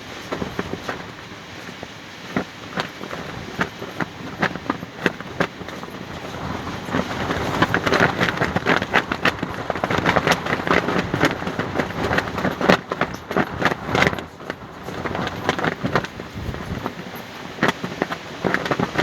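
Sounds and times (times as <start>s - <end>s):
fabric flapping in wind: 0.0s - 19.0s
rushing wind: 0.0s - 19.0s.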